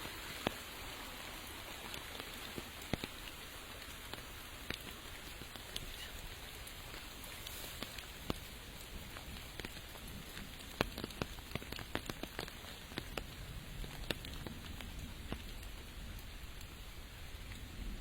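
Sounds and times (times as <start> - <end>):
sharp raindrops landing close: 0.0 - 18.0
steady rain hiss: 0.0 - 18.0.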